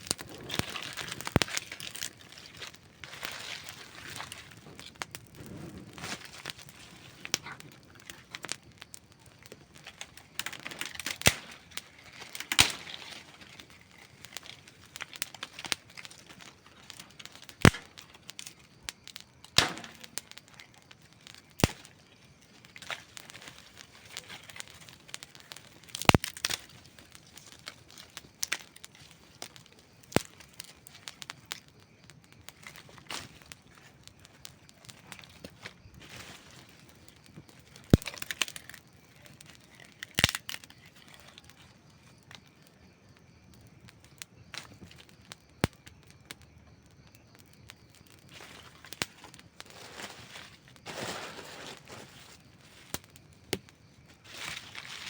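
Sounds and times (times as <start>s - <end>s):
campfire crackling: 0.0s - 55.0s
fire popping and snapping: 0.0s - 55.0s.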